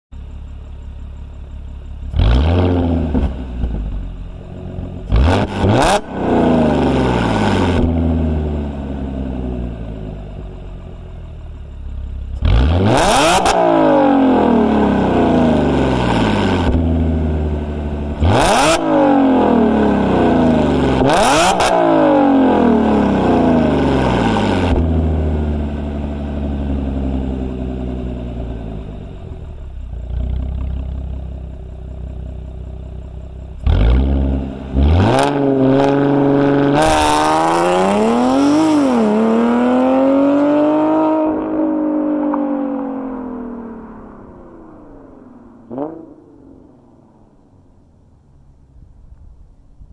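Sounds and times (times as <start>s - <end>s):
car engine revving: 0.3s - 47.9s.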